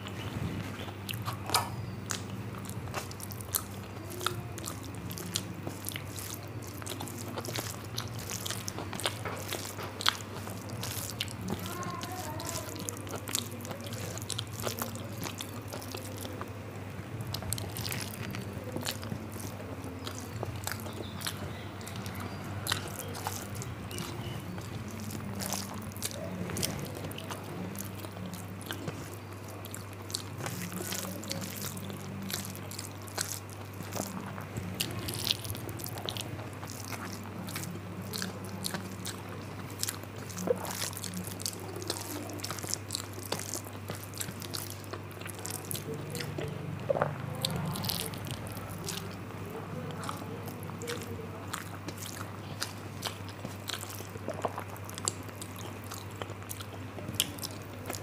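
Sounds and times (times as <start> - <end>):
steady low hum: 0.0 - 58.0
wet chewing and lip smacks: 0.0 - 58.0.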